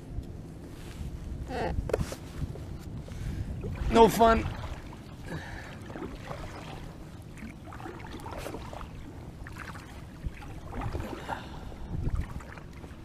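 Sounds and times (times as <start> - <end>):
wind rumbling on microphone: 0.0 - 13.0
water lapping against kayak hull: 1.9 - 13.0.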